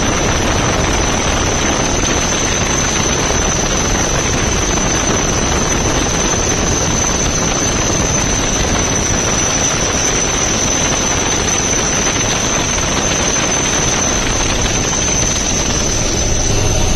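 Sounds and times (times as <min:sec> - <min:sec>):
helicopter rotor and engine: 0:00.0 - 0:16.9
high whine: 0:00.0 - 0:16.9.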